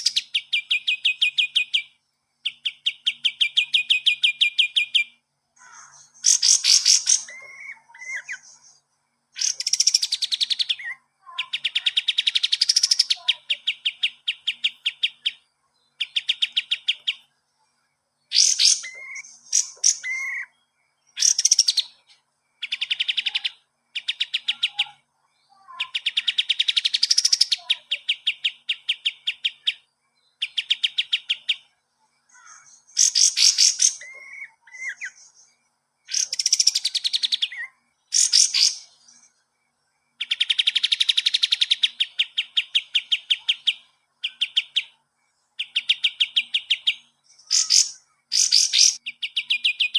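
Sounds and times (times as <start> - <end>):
songbird singing trills: 0.0 - 49.9.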